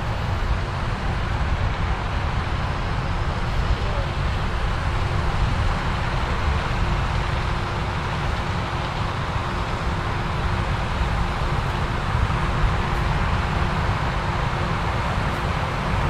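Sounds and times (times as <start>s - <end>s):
farm machinery engine rumble: 0.0s - 16.0s
steady machine hum: 0.0s - 16.0s.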